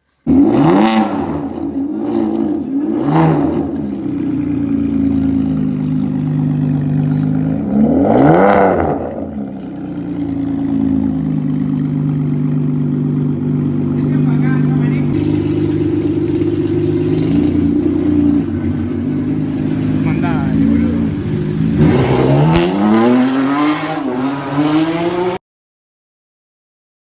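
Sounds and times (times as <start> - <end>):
sports car engine revving: 0.2 - 25.4.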